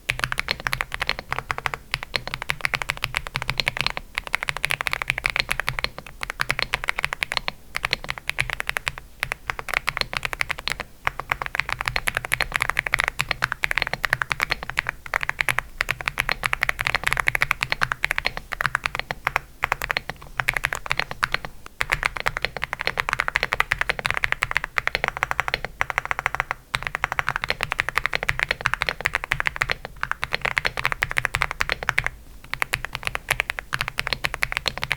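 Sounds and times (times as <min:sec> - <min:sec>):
fast mechanical keyboard typing: 0:00.0 - 0:34.9.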